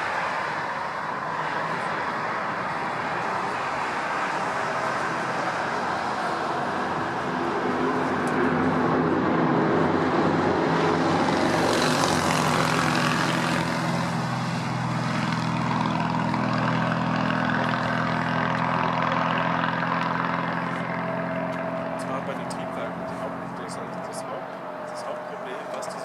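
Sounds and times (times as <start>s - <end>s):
jet engines at takeoff power: 0.0s - 26.0s.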